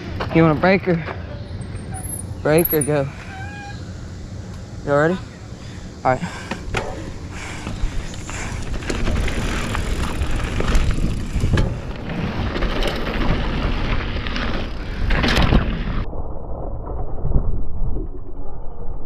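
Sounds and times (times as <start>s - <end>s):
bike rattling over bumps: 0.0s - 16.1s
bike tyres rolling on dirt: 0.0s - 16.1s.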